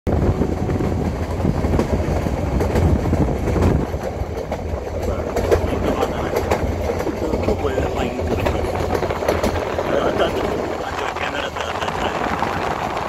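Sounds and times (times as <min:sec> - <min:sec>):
moving vehicle rumble: 0:00.1 - 0:13.0.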